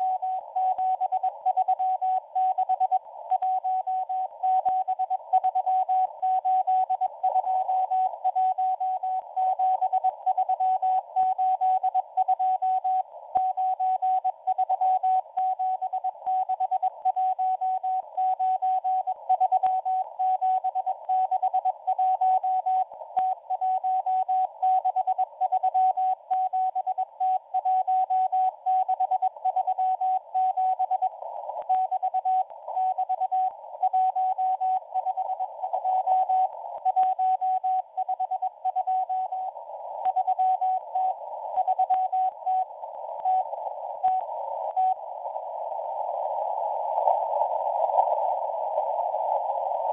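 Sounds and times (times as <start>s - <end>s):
radio hiss and static crackles: 0.0s - 49.9s.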